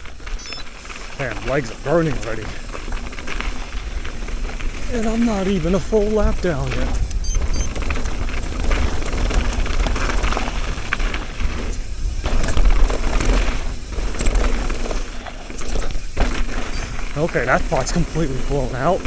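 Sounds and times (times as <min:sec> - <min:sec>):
tyre noise on dirt: 0:00.0 - 0:19.0
wind rushing over microphone: 0:00.0 - 0:19.0.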